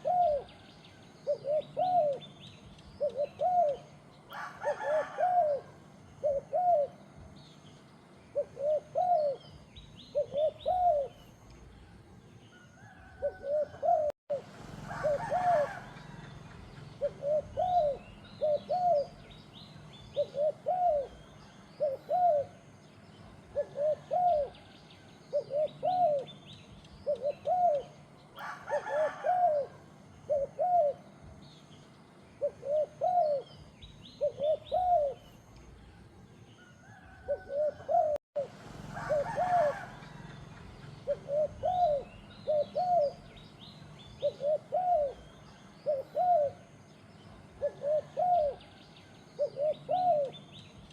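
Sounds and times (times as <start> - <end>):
small birds chirping faintly: 0.0 - 50.9
turtle dove cooing: 0.0 - 50.9.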